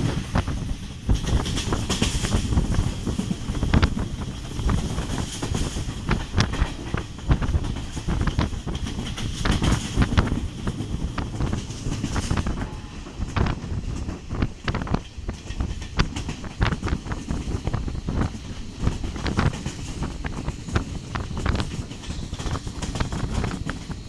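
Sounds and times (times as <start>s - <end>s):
train carriage rumble: 0.0s - 24.0s
wheels clacking over rail joints: 0.0s - 24.0s.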